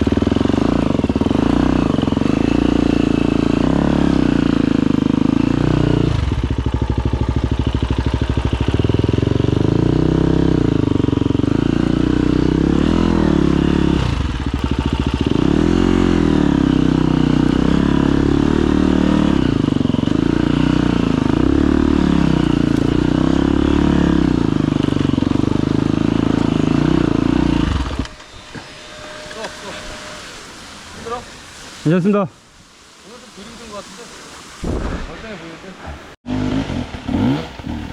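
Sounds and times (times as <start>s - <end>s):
motorcycle engine revving: 0.0s - 31.6s, 36.1s - 37.9s.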